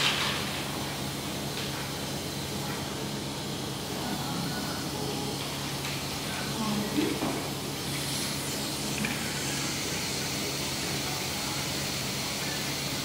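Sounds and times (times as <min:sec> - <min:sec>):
dental suction hissing: 0:00.8 - 0:13.0.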